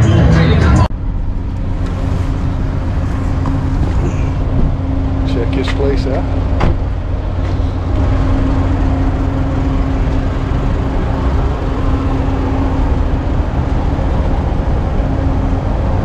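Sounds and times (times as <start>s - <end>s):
steady machine hum: 0.9s - 16.0s.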